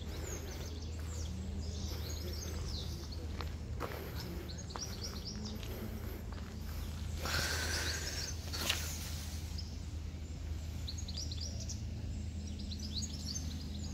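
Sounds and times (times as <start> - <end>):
birds chirping: 0.0 - 13.9
steady low hum: 0.0 - 13.9.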